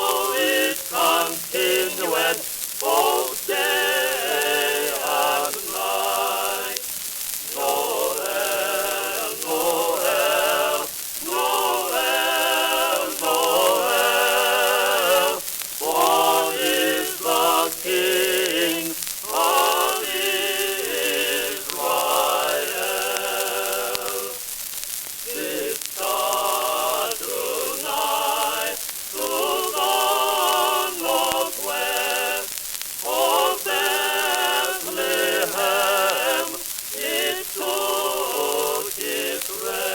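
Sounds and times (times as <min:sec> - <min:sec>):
record surface hiss and crackle: 0:00.0 - 0:39.9
singing voices with vibrato: 0:00.0 - 0:39.9.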